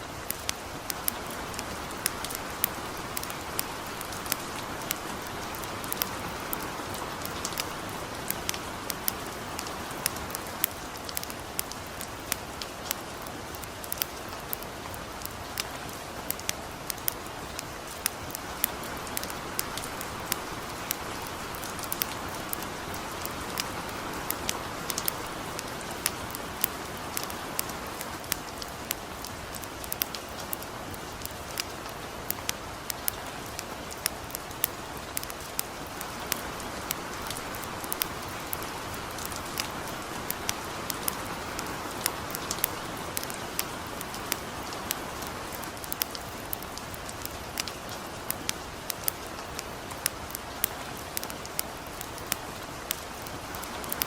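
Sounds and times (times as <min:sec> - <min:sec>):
campfire crackling: 0:00.0 - 0:54.0
gentle rain hiss: 0:00.0 - 0:54.0.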